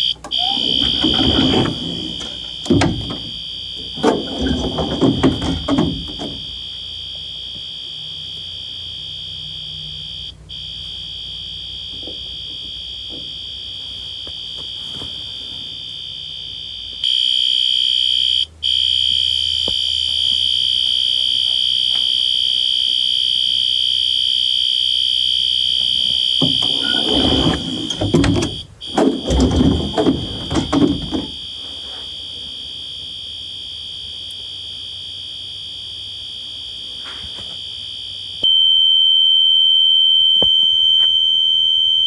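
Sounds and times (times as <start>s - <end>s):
fire alarm horn tone: 0.0s - 42.0s.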